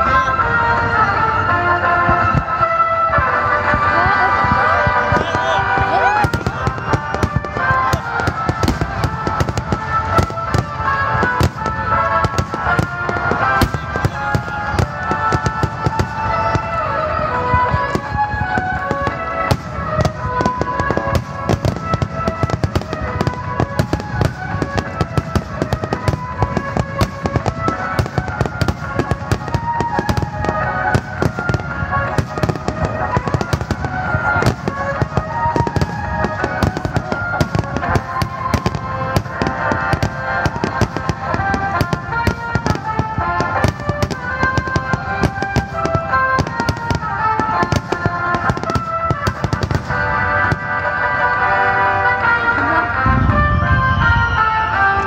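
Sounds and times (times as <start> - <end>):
fireworks bursting and crackling: 0.0 - 55.0
melodic music: 0.0 - 55.0.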